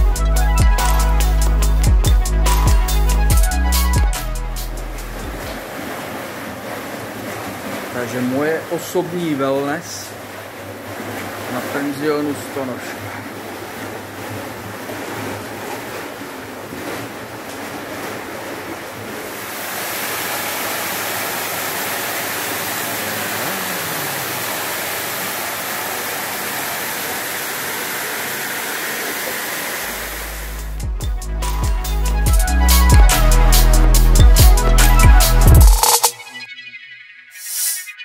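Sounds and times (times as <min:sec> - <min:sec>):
water churning under jets: 0:00.0 - 0:36.5.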